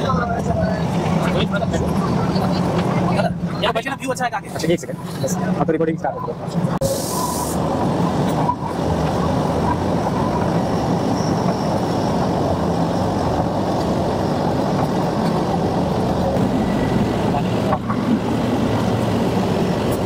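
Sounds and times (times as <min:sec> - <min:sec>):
train engine and wheels rumbling: 0:00.0 - 0:20.0.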